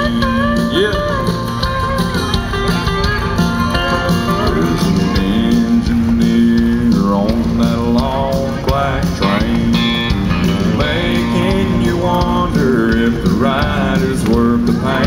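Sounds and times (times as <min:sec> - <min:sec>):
country band playing: 0:00.0 - 0:15.0
sliding bending guitar lead: 0:00.0 - 0:15.0.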